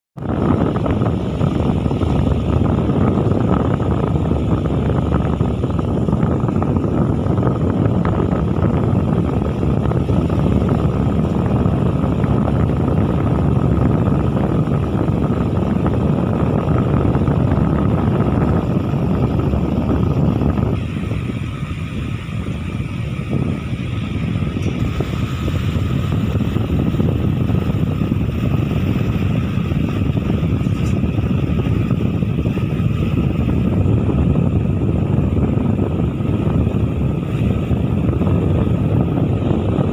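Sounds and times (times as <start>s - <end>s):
toy airplane propeller whine: 0.2s - 39.9s.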